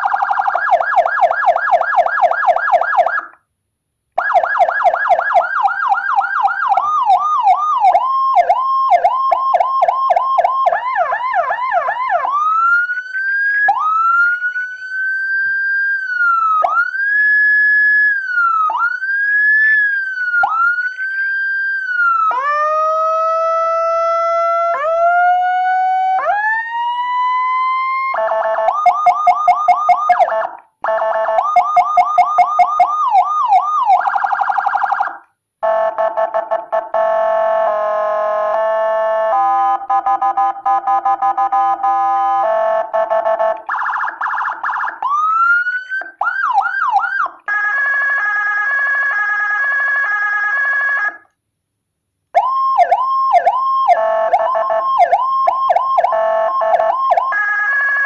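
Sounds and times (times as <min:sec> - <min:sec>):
electronic siren cycling tones: 0:00.0 - 0:03.4, 0:04.2 - 0:51.3, 0:52.4 - 0:58.0.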